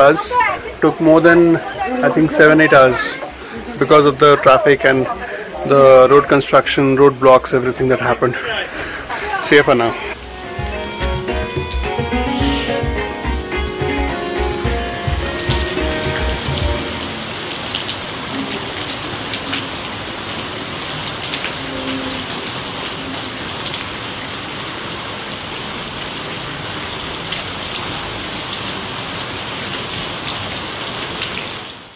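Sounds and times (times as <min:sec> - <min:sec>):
raindrops ticking: 0:00.0 - 0:31.9
steady rain: 0:00.0 - 0:31.9.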